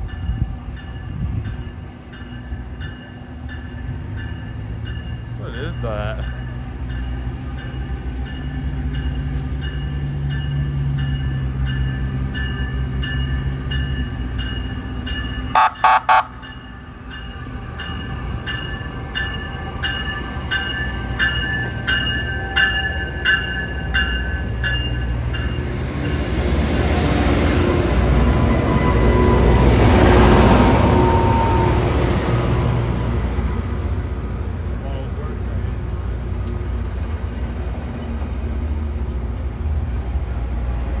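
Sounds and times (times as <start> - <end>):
locomotive bell ringing: 0.0 - 38.8
diesel locomotive engine rumble: 0.0 - 41.0
rail noise: 0.0 - 41.0.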